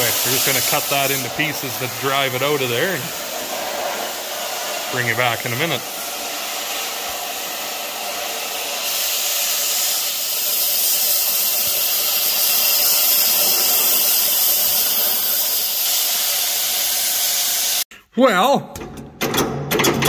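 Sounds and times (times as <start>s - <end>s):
cutting torch hissing: 0.0s - 17.9s.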